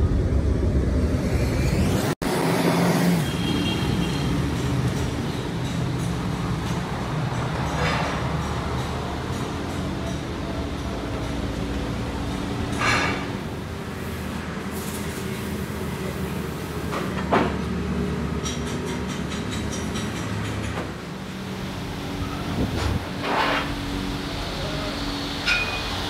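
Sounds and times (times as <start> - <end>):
workshop machinery humming: 0.0 - 26.0.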